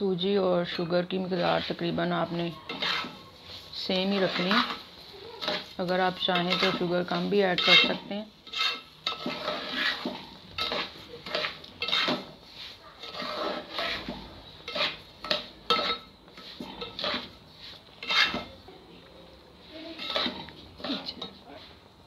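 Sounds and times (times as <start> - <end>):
metal spoon scraping metal pot: 0.7 - 18.6, 19.8 - 21.4.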